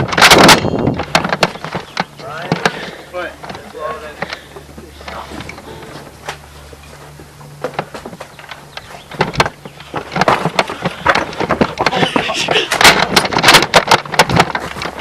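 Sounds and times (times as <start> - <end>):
sharp clicks and knocks: 0.0 - 6.4, 7.2 - 15.0
low steady hum: 0.0 - 15.0.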